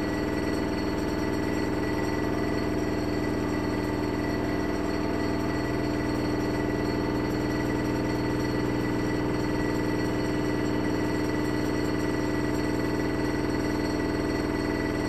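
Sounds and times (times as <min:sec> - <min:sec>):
washing machine drum motor hum: 0:00.0 - 0:15.0.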